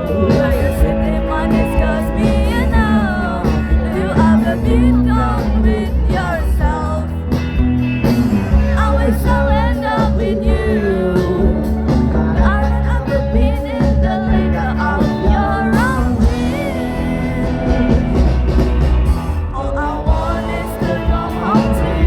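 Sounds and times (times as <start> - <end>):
person singing: 0.0 - 7.4, 8.6 - 18.5, 19.1 - 22.0
rock band playing: 0.0 - 22.0
steady bass: 0.0 - 22.0.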